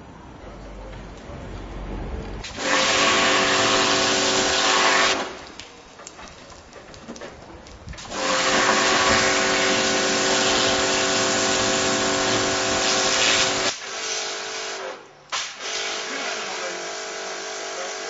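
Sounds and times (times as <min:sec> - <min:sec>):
pressure washer jet hissing on stone: 0:02.4 - 0:18.0.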